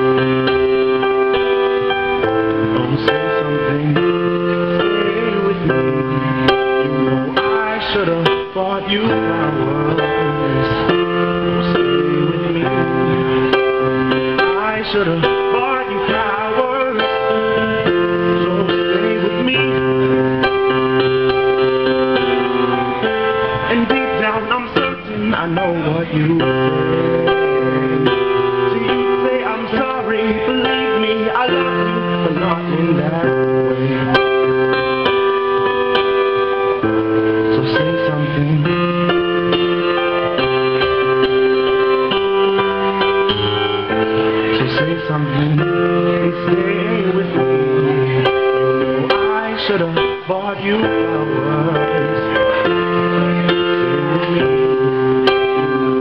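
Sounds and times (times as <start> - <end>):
digital keyboard chords: 0.0 - 56.0
man singing pop ballad: 0.0 - 56.0.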